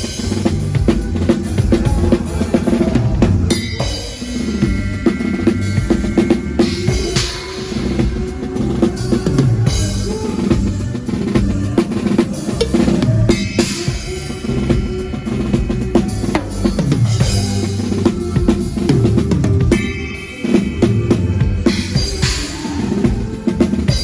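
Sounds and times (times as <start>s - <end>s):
bass drum and snare strokes: 0.0s - 19.9s
band instruments playing: 0.0s - 24.0s.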